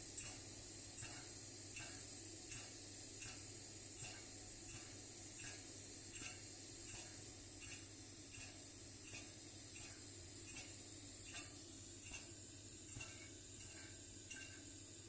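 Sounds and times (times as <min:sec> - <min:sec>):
kerosene stove burner hissing: 0:00.0 - 0:15.0.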